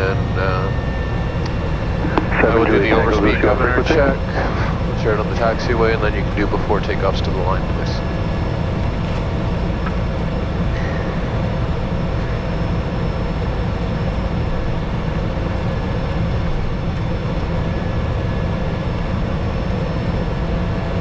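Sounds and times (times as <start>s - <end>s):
faint steady whines: 0.0s - 21.0s
turboprop engine rumble: 0.0s - 21.0s.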